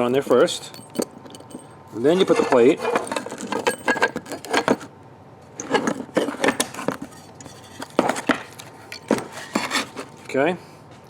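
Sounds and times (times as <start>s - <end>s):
small metal parts clinking: 0.0s - 4.9s, 5.6s - 10.3s.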